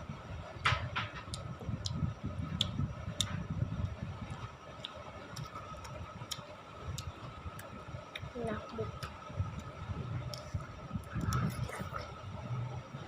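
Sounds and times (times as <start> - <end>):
chewing and handling rumble: 0.4 - 13.0.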